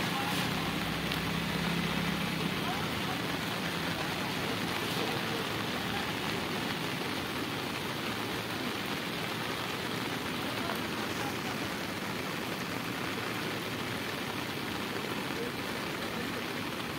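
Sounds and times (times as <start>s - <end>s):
rain on river: 0.0s - 16.9s.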